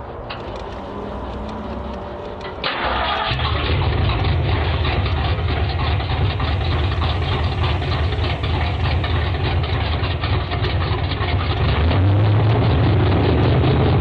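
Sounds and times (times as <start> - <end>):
engine idling: 0.0 - 14.0
rapid even engine ticking: 0.0 - 14.0.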